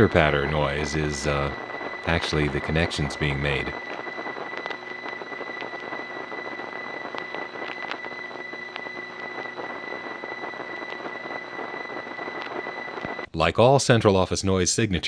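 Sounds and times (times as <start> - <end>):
line hiss: 0.0 - 13.2
high-pitched telephone line whine: 0.0 - 15.0.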